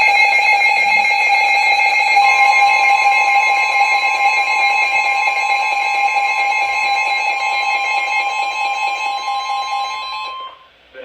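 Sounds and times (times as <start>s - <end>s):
distorted two-pitch alert tone: 0.0s - 10.7s.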